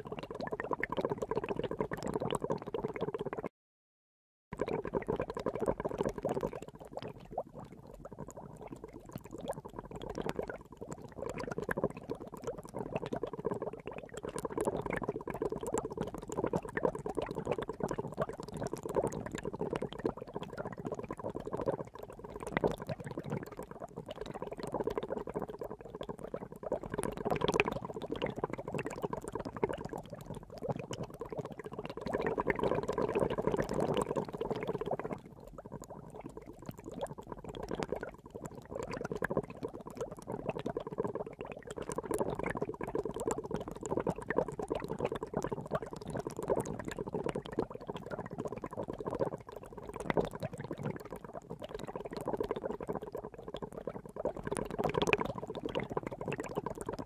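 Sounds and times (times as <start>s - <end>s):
water boiling and bubbling: 0.1s - 3.5s, 4.6s - 57.0s.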